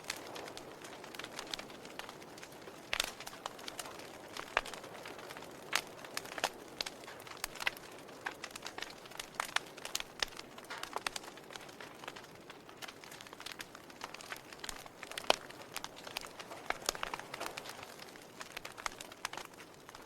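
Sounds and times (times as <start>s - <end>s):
faint steady hiss: 0.0s - 20.0s
log fire crackling and popping: 0.0s - 20.0s.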